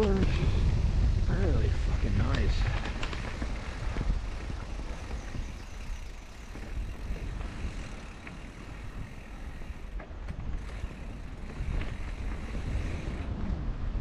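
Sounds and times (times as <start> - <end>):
bike clicks and rattles: 0.0 - 0.9, 1.6 - 14.0
tyre noise on dirt trail: 0.0 - 14.0
wind rumbling on microphone: 0.0 - 14.0.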